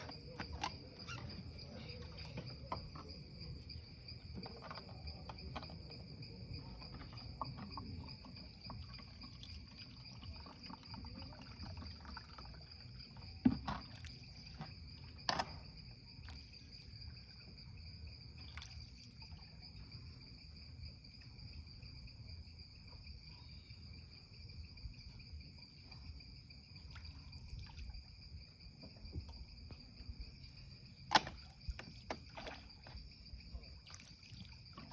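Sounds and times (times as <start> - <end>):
insect chorus trilling: 0.0 - 34.9.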